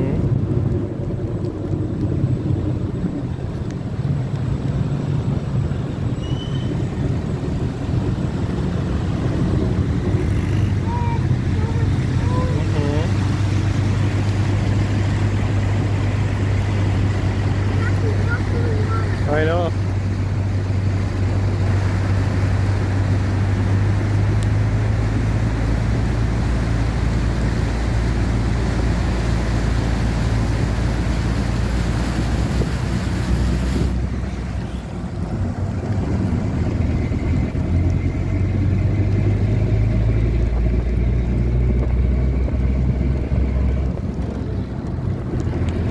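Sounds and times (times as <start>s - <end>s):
tyres hissing on wet road: 0.0s - 45.9s
tyres splashing through floodwater: 0.0s - 45.9s
vehicle engine humming: 0.0s - 45.9s.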